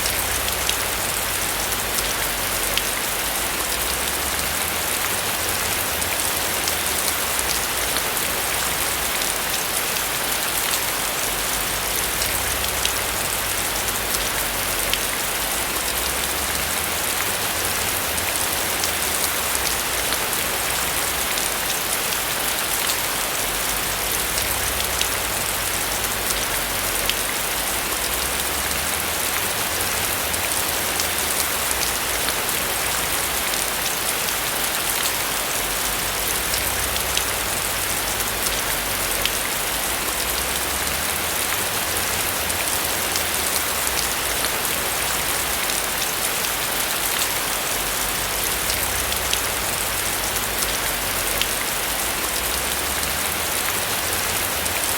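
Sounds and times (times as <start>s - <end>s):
heavy rain drumming on a roof: 0.0s - 54.9s.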